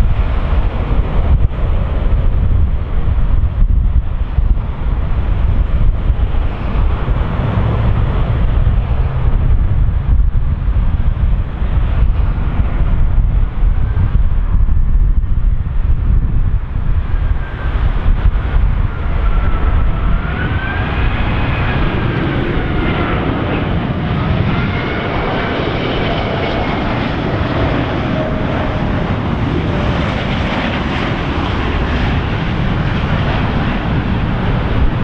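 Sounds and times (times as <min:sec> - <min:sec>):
jet airliner rumbling overhead: 0:00.0 - 0:35.0.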